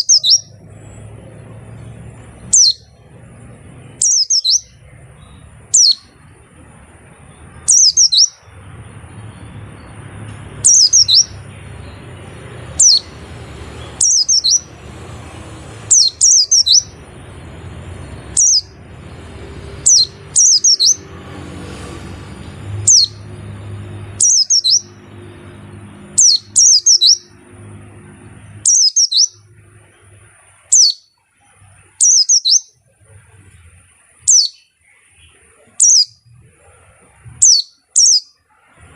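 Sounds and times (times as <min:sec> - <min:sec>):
bird high chirps: 0:00.0 - 0:03.2, 0:03.8 - 0:21.2, 0:22.4 - 0:27.5, 0:28.4 - 0:32.8, 0:33.5 - 0:38.8.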